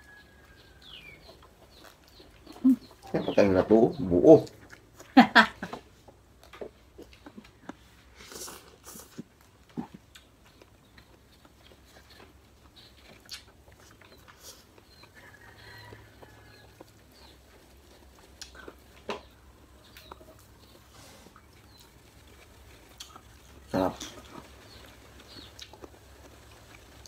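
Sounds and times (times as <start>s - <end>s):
chewing and eating fish: 0.0s - 3.2s, 4.4s - 27.0s.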